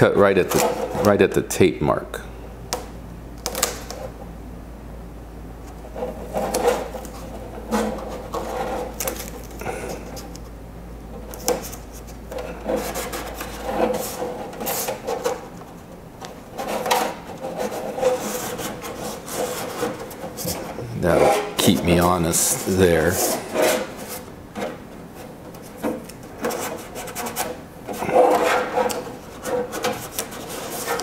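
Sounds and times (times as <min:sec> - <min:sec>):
tape scraping and tapping: 0:00.3 - 0:01.4, 0:05.6 - 0:10.5, 0:11.1 - 0:31.0.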